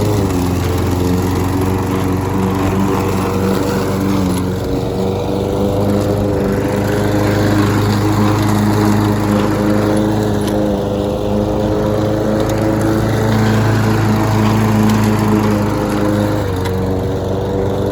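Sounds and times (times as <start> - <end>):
lawn mower engine running: 0.0 - 17.9.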